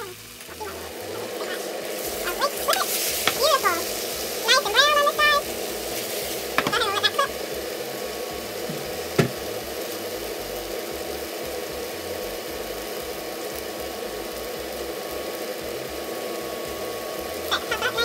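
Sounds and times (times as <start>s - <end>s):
omelet sizzling in pan: 0.0s - 18.0s.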